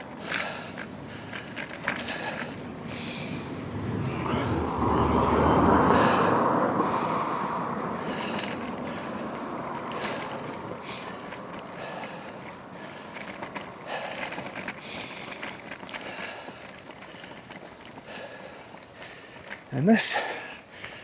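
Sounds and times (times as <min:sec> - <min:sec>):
bicycle road and wind noise: 0:00.0 - 0:21.0
motor vehicle passing: 0:00.0 - 0:21.0.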